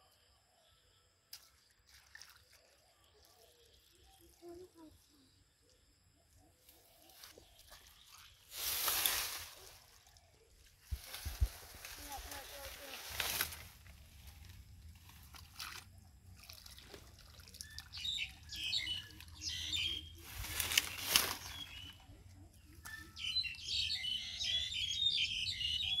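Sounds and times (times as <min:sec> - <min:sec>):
small birds chirping: 0:02.4 - 0:26.0.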